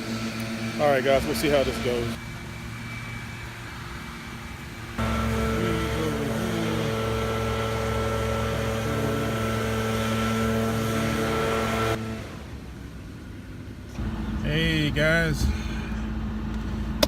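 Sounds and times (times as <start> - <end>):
steady engine drone: 0.0 - 17.0.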